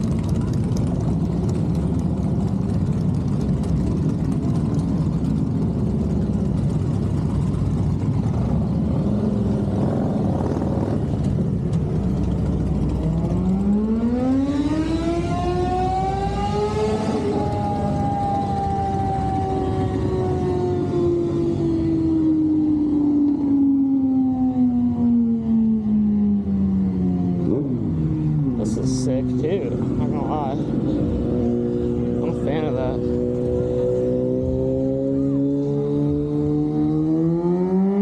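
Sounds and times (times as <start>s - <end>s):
idling engines rumble: 0.0s - 36.8s
motorcycle engine revving: 0.0s - 38.0s.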